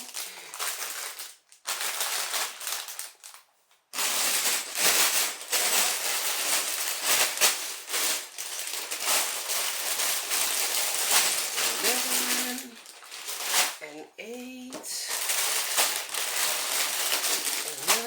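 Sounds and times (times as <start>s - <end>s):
plastic bags crinkling: 0.0s - 13.8s, 14.6s - 18.0s.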